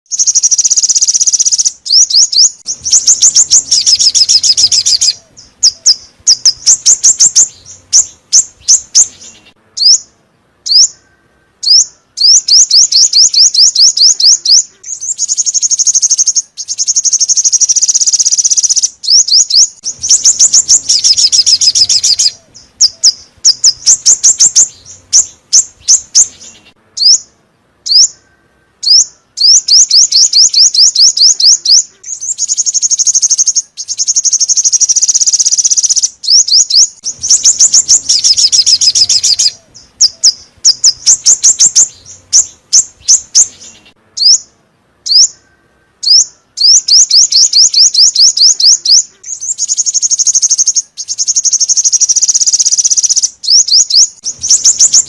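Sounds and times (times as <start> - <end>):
bird trilling chirps: 0.1 - 55.0
single bird chirps: 0.1 - 55.0.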